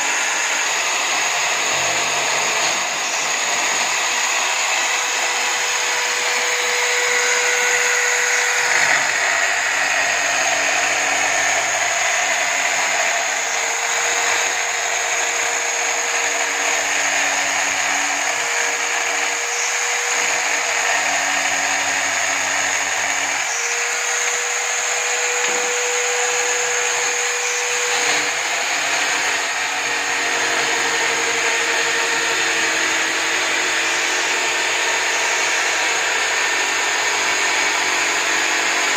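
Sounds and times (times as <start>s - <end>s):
electric drill sanding wood: 0.0s - 38.9s.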